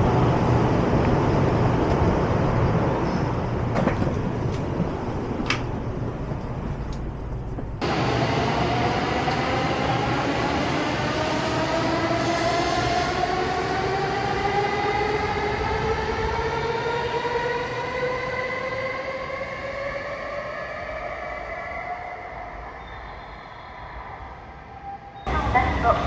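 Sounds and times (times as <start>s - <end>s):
train cars rumbling: 0.0s - 20.2s, 22.3s - 26.0s.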